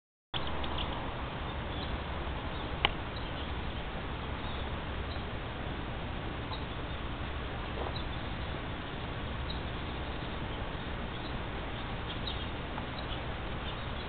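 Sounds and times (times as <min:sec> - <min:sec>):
outdoor background noise: 0:00.4 - 0:14.0.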